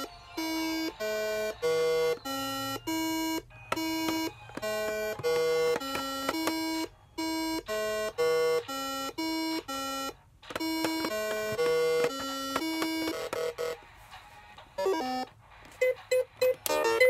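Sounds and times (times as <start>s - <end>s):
electronic game beeps: 0.0s - 13.8s, 14.8s - 17.0s.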